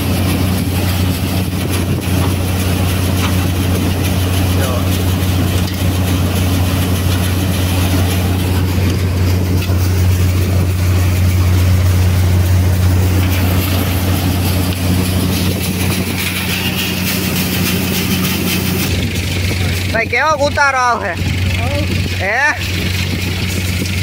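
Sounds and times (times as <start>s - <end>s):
deep engine hum: 0.0s - 24.0s
thresher machine noisy wash: 0.0s - 24.0s.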